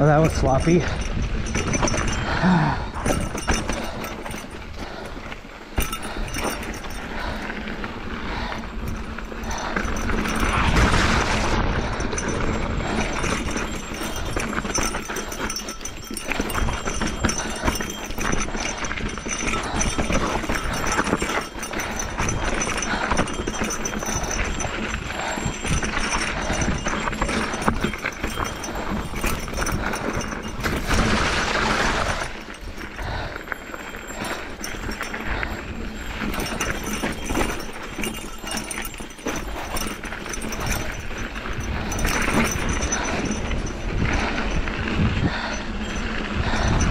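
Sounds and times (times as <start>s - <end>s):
bike rattling over rocks: 0.0s - 46.9s.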